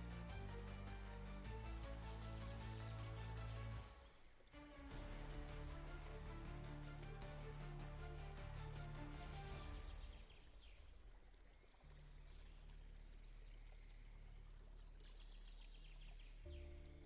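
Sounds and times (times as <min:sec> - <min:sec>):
pouring water: 0:00.0 - 0:17.0.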